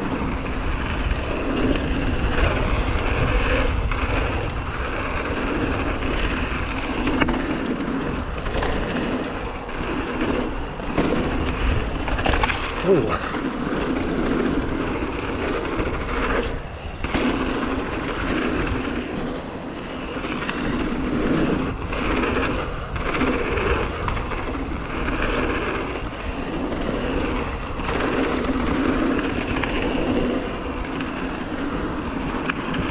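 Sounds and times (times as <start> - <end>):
bike tyres rolling over dirt: 0.0 - 32.9
wind on microphone: 0.0 - 32.9.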